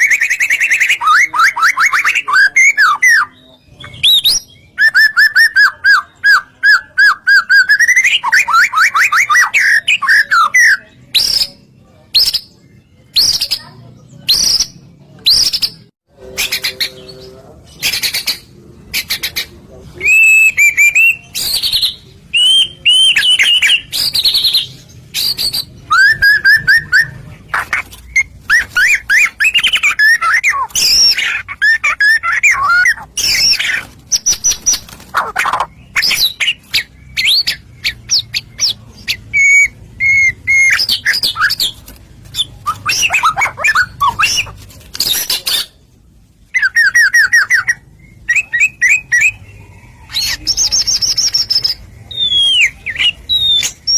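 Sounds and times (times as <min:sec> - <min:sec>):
songbird whistles and trills: 0:00.0 - 0:16.7, 0:17.8 - 0:45.8, 0:46.5 - 0:53.9.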